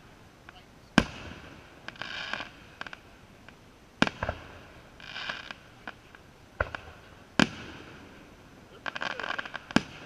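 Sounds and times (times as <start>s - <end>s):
small firework pops and crackle: 0.4s - 10.0s
firework booms: 0.9s - 10.0s.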